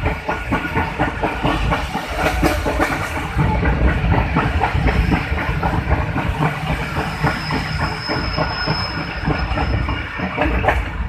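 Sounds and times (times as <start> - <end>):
heavy train rumble: 0.0 - 11.0
train wheels clattering over rails: 0.0 - 11.0.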